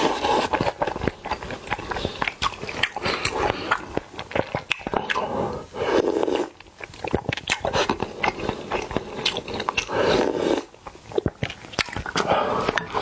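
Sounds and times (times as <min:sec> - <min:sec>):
slurping noise: 0:00.0 - 0:13.0
wet chewing and lip smacks: 0:00.1 - 0:05.3, 0:06.2 - 0:13.0.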